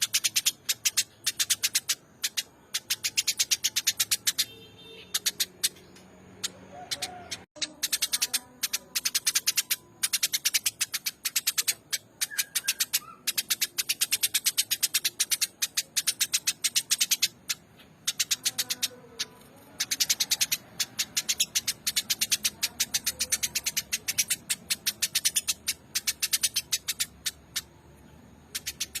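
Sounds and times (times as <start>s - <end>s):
sparrow chirping: 0.0s - 29.0s.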